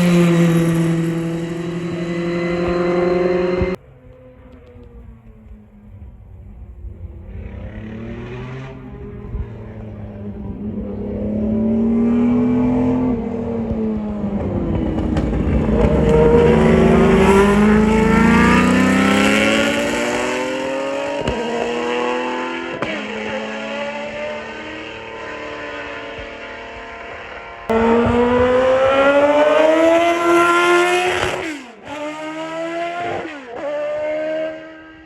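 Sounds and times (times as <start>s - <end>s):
racing car passing at speed: 0.0s - 35.0s.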